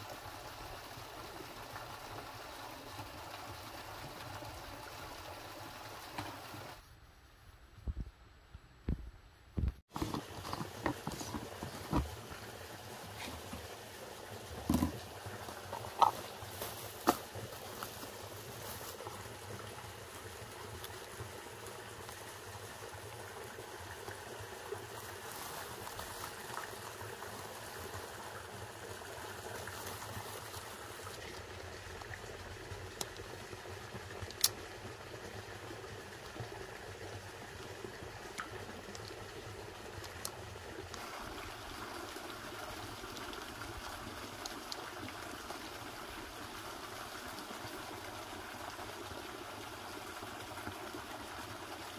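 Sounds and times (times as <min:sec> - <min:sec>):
running water trickling: 0:09.9 - 0:51.9.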